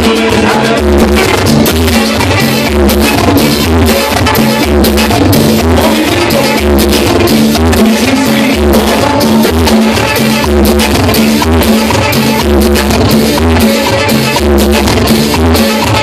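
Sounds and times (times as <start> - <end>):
button accordion: 0.0 - 16.0
cumbia band playing: 0.0 - 16.0.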